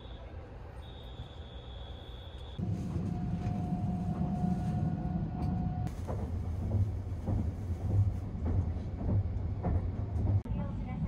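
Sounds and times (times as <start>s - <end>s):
train carriage rumble: 2.0s - 11.0s.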